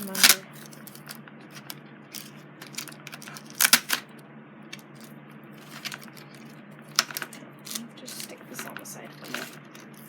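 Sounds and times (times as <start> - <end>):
packaging crackling: 0.0 - 4.0, 4.8 - 10.0.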